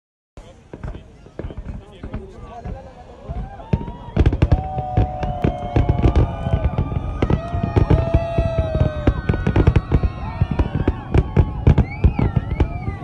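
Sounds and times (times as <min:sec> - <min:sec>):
fireworks bangs and crackling: 0:00.4 - 0:13.0.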